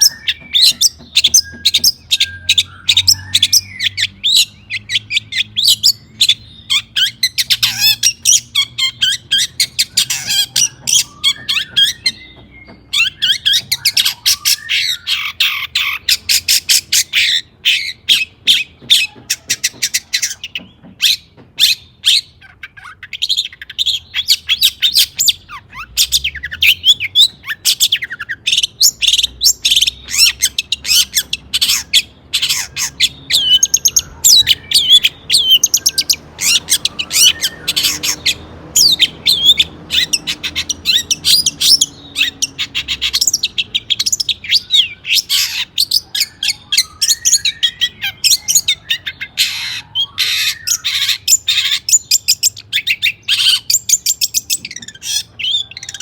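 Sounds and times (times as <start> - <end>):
bird harsh chattering song: 0.0 - 56.0.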